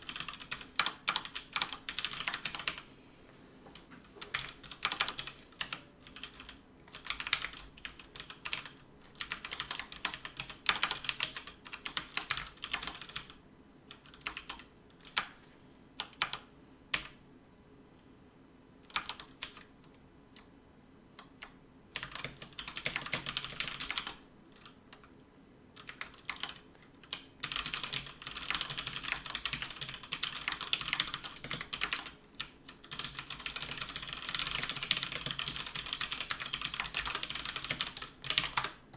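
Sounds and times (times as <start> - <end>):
fast typing on keyboard: 0.0 - 2.8, 4.2 - 15.3, 16.0 - 17.2, 18.9 - 19.7, 21.2 - 25.0, 25.8 - 38.8.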